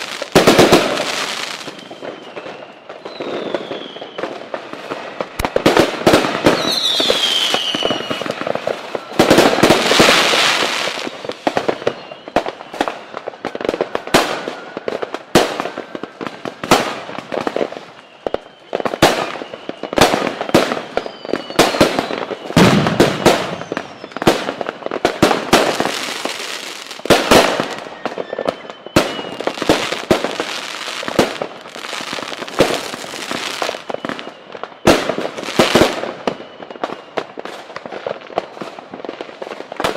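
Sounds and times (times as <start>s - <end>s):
falling firework whistle: 0.0s - 39.9s
fireworks bangs and crackling: 0.0s - 39.9s.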